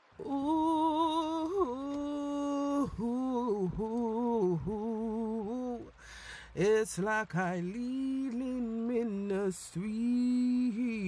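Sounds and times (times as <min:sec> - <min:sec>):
person singing wordless notes: 0:00.2 - 0:11.0.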